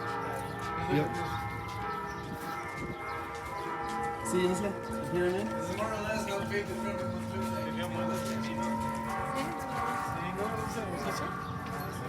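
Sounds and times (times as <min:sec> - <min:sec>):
cathedral bells ringing: 0:00.0 - 0:12.0.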